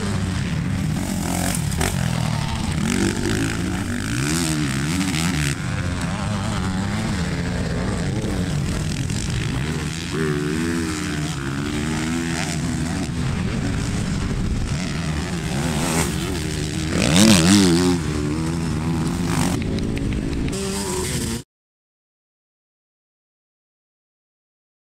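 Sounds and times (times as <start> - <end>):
dirt bike engines revving: 0.0 - 21.4.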